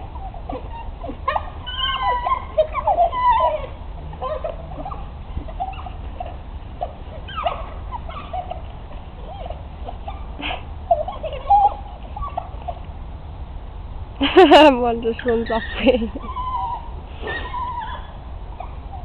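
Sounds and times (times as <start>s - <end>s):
wild dogs twittering and whining: 0.0s - 13.3s, 15.2s - 19.0s.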